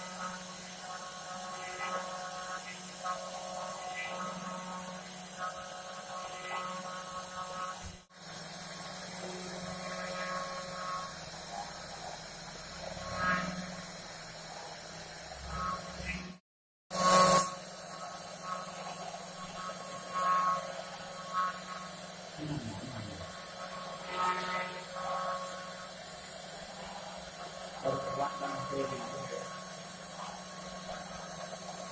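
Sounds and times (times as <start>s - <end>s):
router spindle hum and whine: 0.0s - 16.4s, 17.0s - 31.9s.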